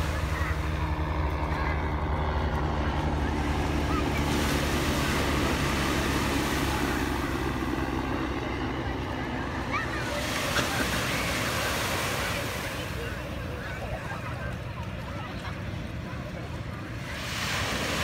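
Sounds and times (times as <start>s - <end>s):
beach surf: 0.0s - 18.0s.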